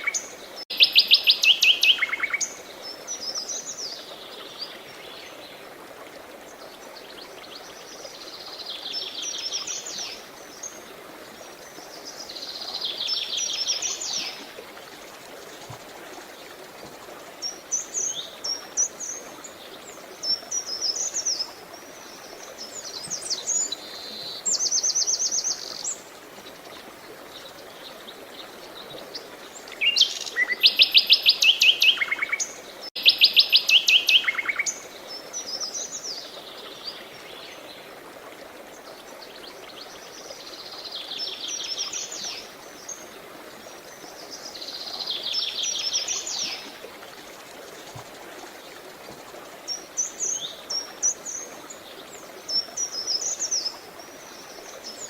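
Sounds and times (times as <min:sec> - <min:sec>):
rushing water: 0:00.0 - 0:55.0
songbirds singing: 0:06.4 - 0:37.9, 0:38.7 - 0:55.0.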